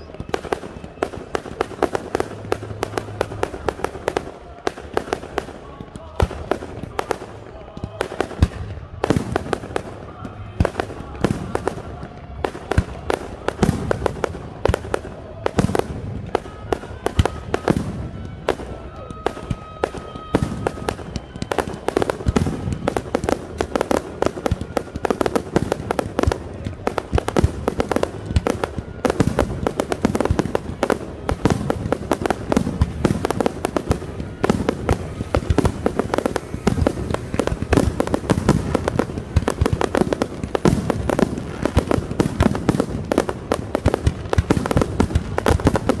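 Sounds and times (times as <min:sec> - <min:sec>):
fireworks booming and crackling: 0:00.0 - 0:46.0.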